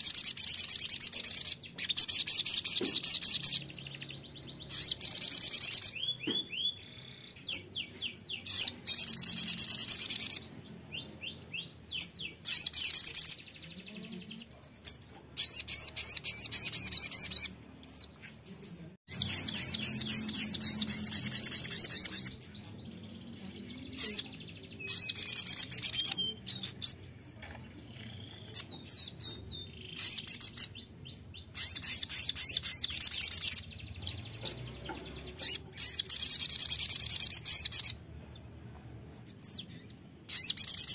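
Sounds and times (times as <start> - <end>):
bird chattering trills: 0.0 - 18.1, 19.1 - 40.9.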